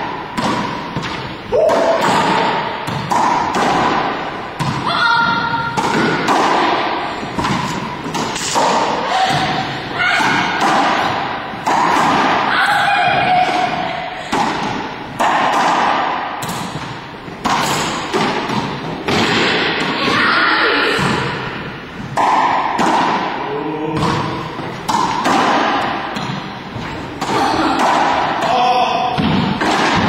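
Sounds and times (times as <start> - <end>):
racquets striking ball: 0.0 - 20.2, 20.9 - 30.0
ball hitting walls and floor: 0.0 - 30.0.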